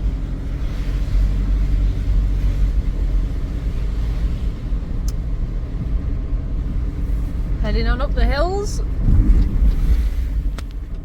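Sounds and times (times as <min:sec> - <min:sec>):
road rumble: 0:00.0 - 0:11.0
vehicle engine drone: 0:00.0 - 0:11.0.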